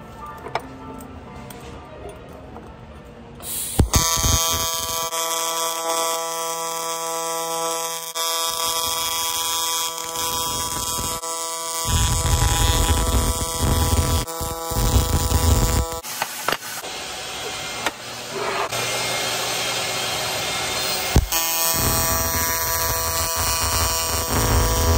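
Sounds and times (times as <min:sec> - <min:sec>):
welding arc buzzing: 0:03.4 - 0:24.9.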